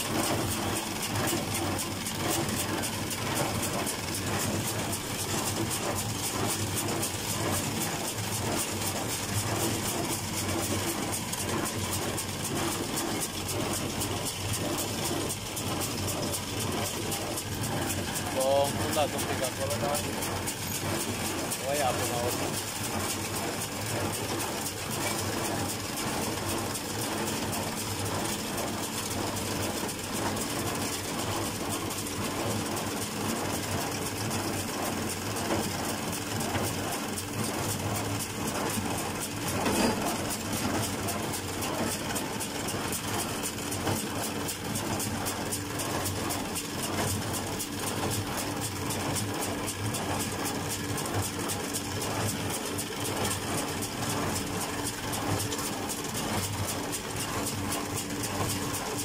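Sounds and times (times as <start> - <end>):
hay baler mechanical beat: 0.0 - 59.0
tractor engine running: 0.0 - 59.0.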